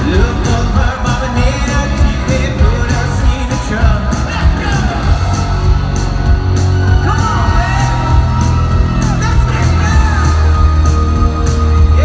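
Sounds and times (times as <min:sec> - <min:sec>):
lead vocal singing: 0:00.0 - 0:12.0
live rock band playing: 0:00.0 - 0:12.0
steady drumbeat: 0:00.0 - 0:12.0.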